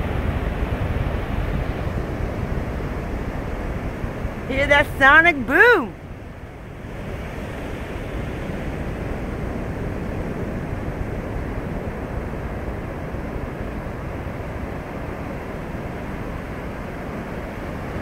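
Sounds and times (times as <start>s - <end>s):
distant rocket engines roaring: 0.0s - 18.0s.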